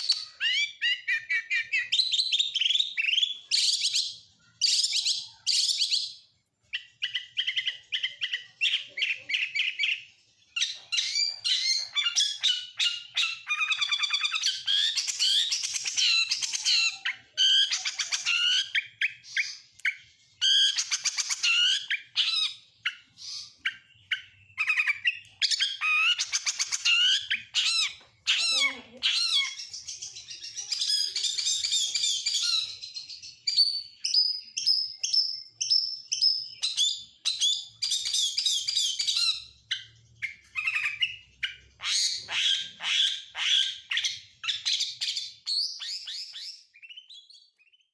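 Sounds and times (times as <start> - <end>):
songbird singing varied song: 0.0 - 47.9.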